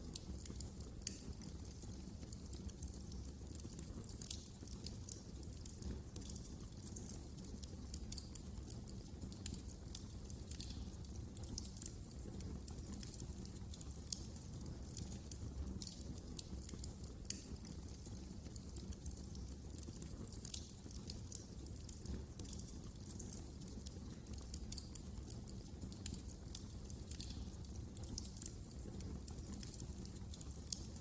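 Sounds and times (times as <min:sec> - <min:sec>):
wood fire crackling: 0:00.0 - 0:31.0
flames rumbling: 0:00.3 - 0:31.0.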